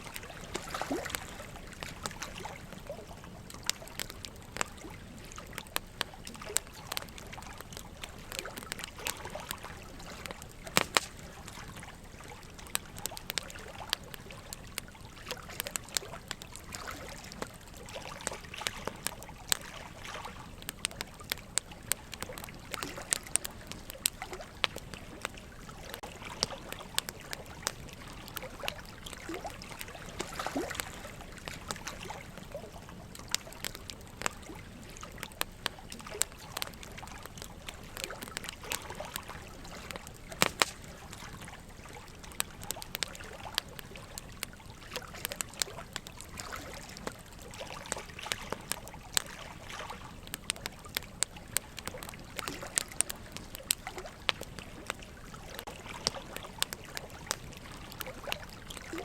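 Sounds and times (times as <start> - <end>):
running water trickling: 0.0 - 59.0
wood fire crackling and popping: 0.0 - 59.0.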